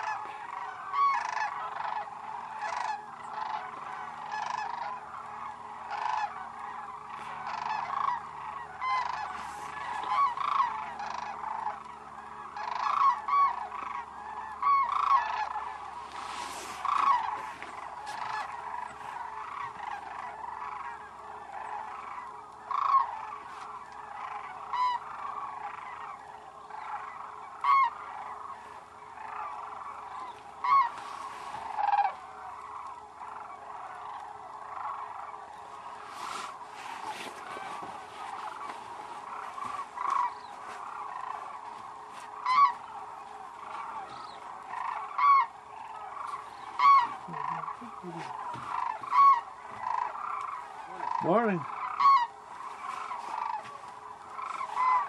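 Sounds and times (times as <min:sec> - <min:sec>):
flock of cranes calling: 0:00.0 - 0:55.0.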